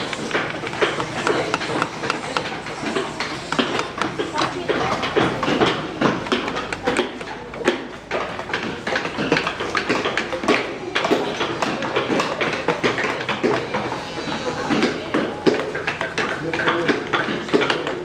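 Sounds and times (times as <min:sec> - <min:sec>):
mallets tapping on chisels: 0:00.0 - 0:18.0.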